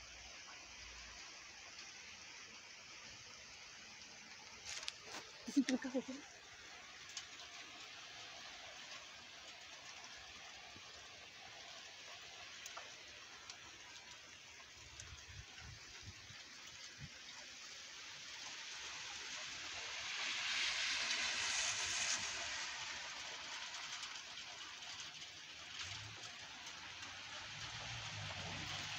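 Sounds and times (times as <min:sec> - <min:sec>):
hail falling: 0:00.1 - 0:28.9.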